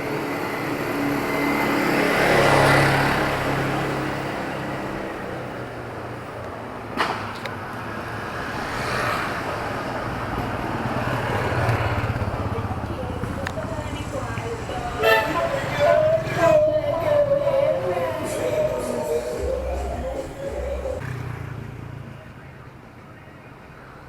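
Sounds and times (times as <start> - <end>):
vehicle engine passing by: 0.3 - 6.4, 7.8 - 22.3.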